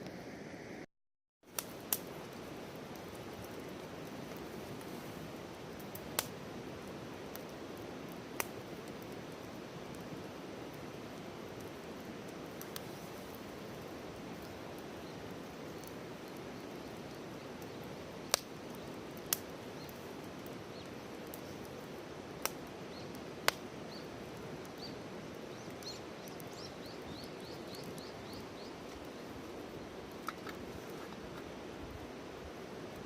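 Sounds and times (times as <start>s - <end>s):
burning wood popping: 1.5s - 33.0s
steady rushing hiss: 1.5s - 33.0s.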